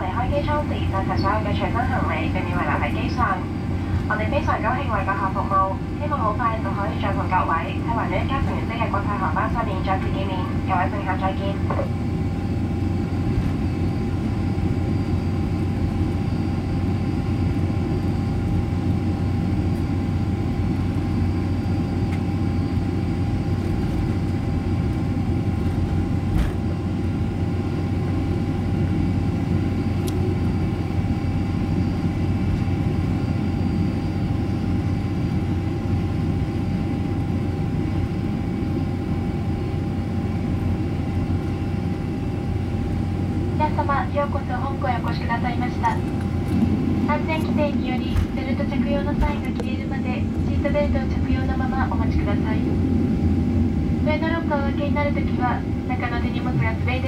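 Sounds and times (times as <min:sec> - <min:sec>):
low engine and air rumble: 0:00.0 - 0:57.0
thin steady whine: 0:00.0 - 0:57.0.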